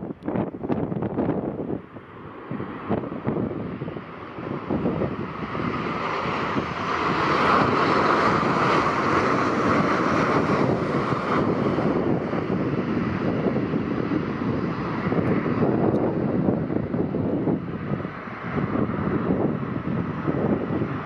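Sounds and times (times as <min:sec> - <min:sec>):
jet engines of passing airliner: 0:00.0 - 0:21.0
wind buffeting microphone: 0:00.0 - 0:21.0.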